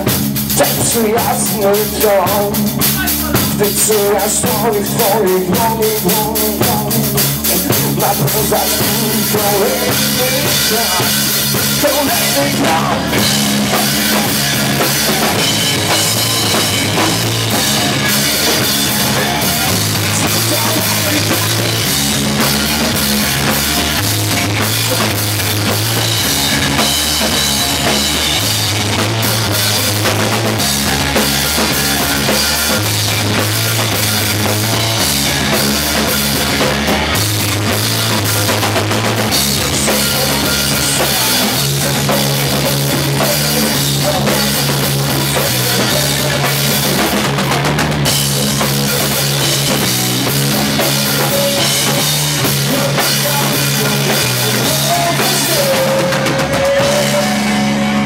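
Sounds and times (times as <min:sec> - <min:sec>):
bass riff: 0:00.0 - 0:58.0
drum kit: 0:00.0 - 0:58.0
electric guitar: 0:00.0 - 0:58.0.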